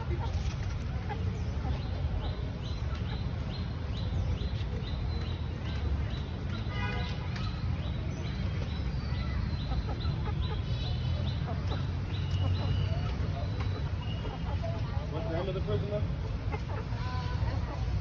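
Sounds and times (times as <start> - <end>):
chickens clucking: 0.0 - 6.7, 7.3 - 18.0.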